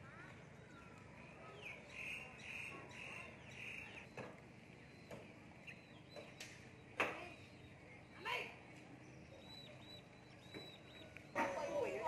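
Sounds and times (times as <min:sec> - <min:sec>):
faint bird calls: 0:00.0 - 0:12.0.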